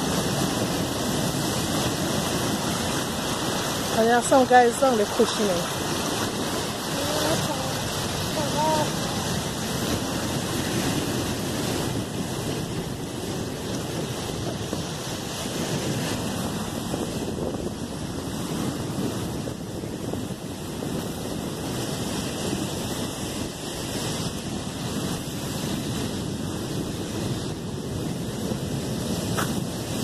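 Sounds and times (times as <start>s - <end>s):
surf breaking on shore: 0.0s - 30.0s
wind buffeting microphone: 0.0s - 30.0s.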